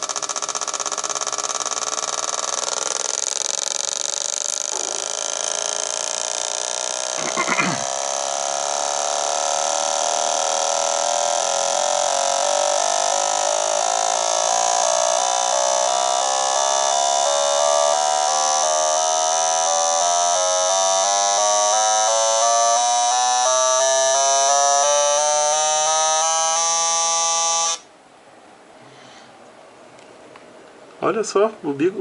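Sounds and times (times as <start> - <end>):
fuel injectors pulsing buzz: 0.0 - 27.9.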